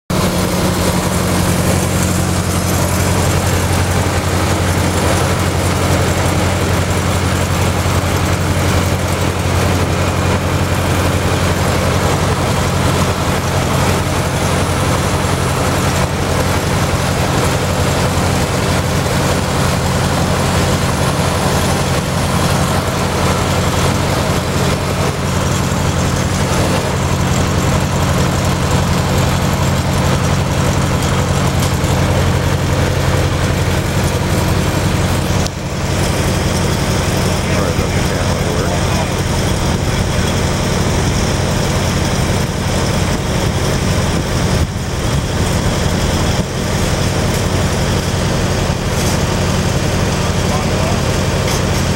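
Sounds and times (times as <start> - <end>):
heavy engine idling: 0.1 - 51.9.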